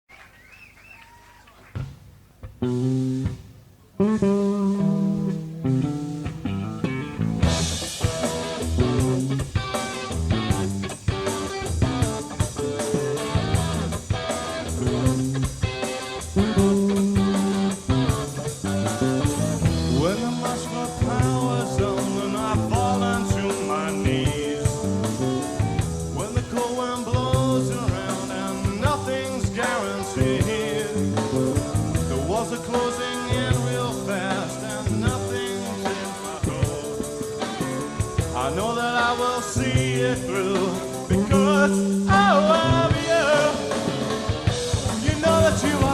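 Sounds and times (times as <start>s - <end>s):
electric guitar: 1.5s - 45.9s
drum hits: 1.8s - 3.8s, 4.6s - 45.9s
bass line: 1.8s - 45.9s.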